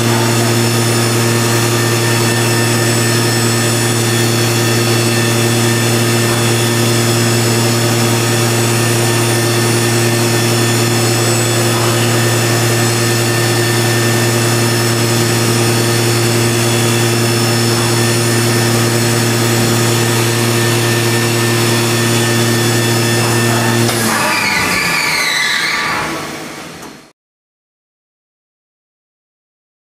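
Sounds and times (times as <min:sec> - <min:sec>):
machining centre humming and whining: 0:00.0 - 0:27.1.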